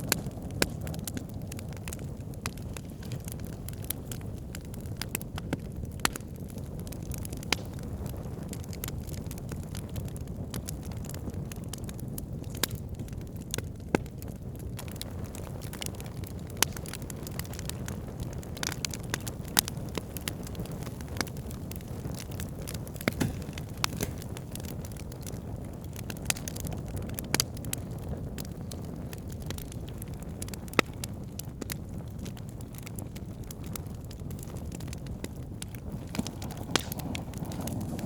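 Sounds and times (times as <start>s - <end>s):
burning logs crackling and popping: 0.0s - 38.0s
campfire flames rumbling: 0.0s - 38.0s.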